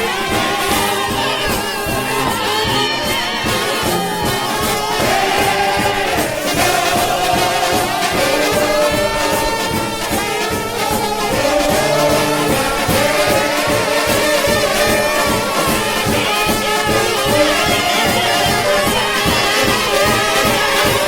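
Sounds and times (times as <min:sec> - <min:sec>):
trombone band playing: 0:00.0 - 0:21.0.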